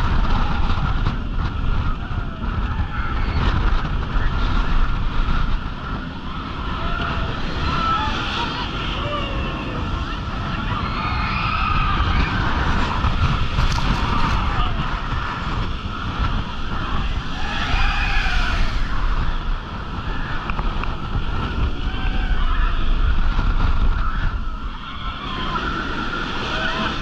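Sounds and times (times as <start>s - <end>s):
roller coaster rumbling on track: 0.0s - 27.0s
wind buffeting microphone: 0.0s - 27.0s.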